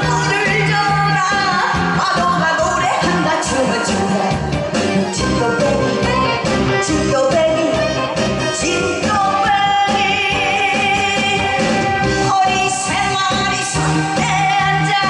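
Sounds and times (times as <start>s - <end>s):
amplified backing music: 0.0s - 15.0s
woman singing into a microphone: 0.0s - 15.0s.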